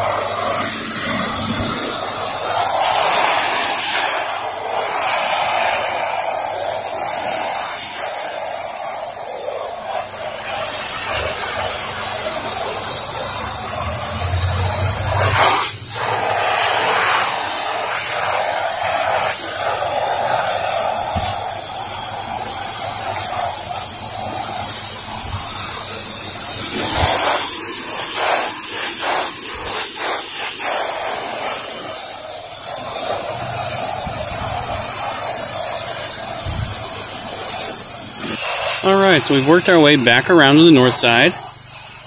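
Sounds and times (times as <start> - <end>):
pressure washer spraying water: 0.0 - 42.0.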